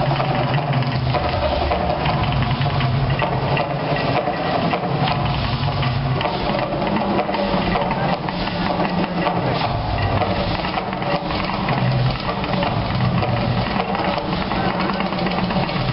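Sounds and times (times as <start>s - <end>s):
crackling: 0.0s - 15.9s
gas fire roaring: 0.0s - 15.9s.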